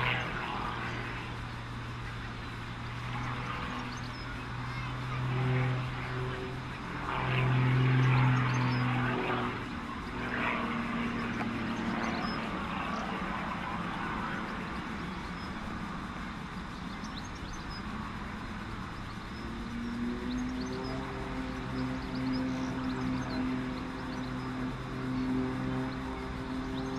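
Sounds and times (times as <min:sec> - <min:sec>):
propeller plane engine droning: 0:00.0 - 0:26.9.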